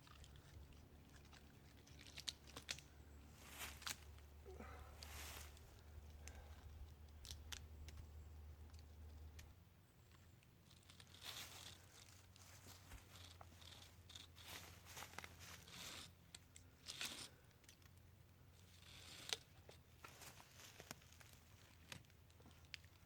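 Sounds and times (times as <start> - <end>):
cord rustling and scraping: 0.0 - 23.0.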